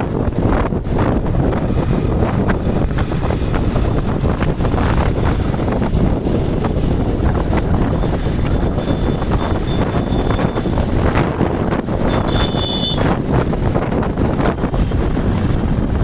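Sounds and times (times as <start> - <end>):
moving vehicle running noise: 0.0 - 16.0
wind buffeting microphone: 0.0 - 16.0.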